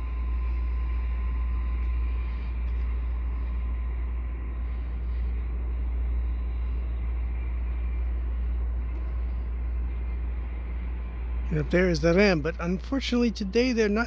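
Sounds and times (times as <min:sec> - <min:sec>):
city background noise: 0:00.0 - 0:14.0
distant train rumble: 0:00.0 - 0:14.0.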